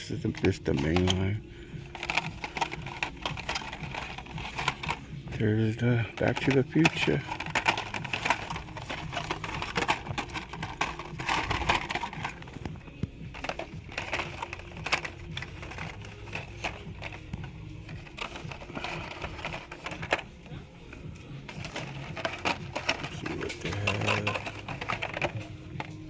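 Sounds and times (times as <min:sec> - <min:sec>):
blister packs clicking and crinkling: 0:00.0 - 0:26.0.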